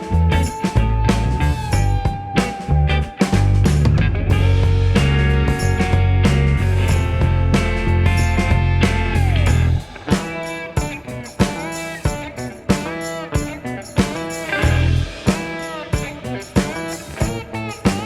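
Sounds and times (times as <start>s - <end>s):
bending guitar notes: 0.0s - 18.0s
steady beat: 0.0s - 18.0s.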